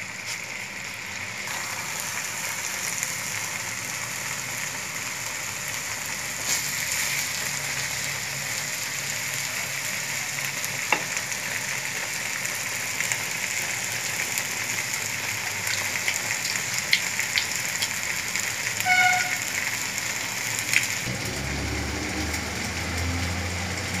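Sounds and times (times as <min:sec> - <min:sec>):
curry sizzling in a wok: 0:00.0 - 0:24.0.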